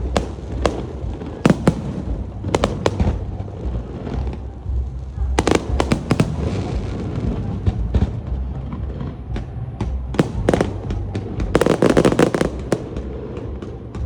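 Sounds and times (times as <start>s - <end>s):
fireworks bangs: 0.0s - 4.4s, 5.3s - 8.1s, 9.4s - 14.0s
fireworks crackling: 0.0s - 7.8s, 9.8s - 14.0s.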